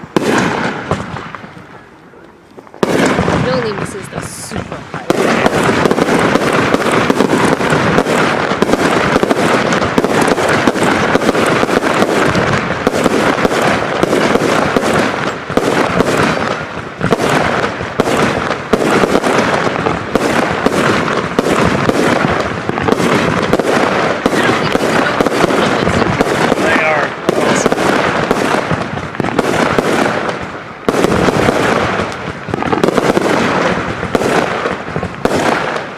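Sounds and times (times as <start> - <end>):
fireworks rapid bangs and pops: 0.0 - 35.9.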